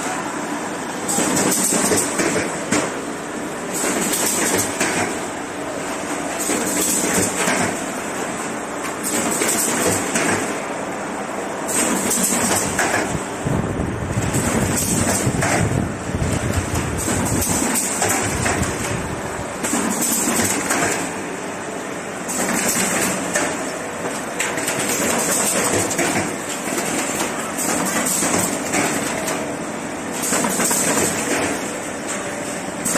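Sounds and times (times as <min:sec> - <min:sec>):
machine clatter and whirr: 0:00.0 - 0:32.9.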